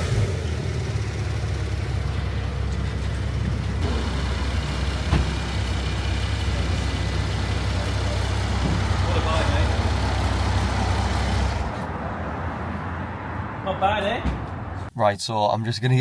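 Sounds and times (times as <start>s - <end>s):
car engine rumbling: 0.0s - 14.9s.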